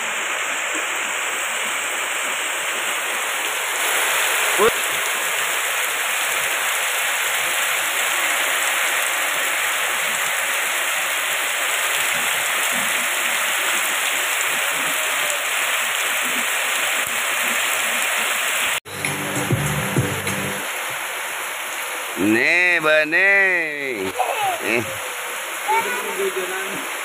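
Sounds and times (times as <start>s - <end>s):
heavy rain on roofs and pavement: 0.0s - 27.0s.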